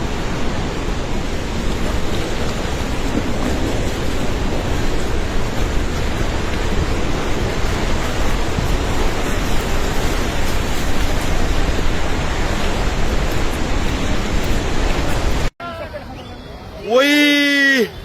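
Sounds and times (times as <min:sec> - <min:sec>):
rushing floodwater: 0:00.0 - 0:18.0.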